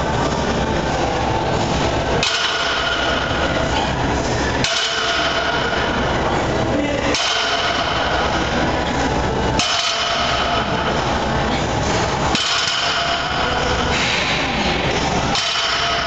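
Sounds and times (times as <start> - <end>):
loud background noise: 0.0 - 16.0.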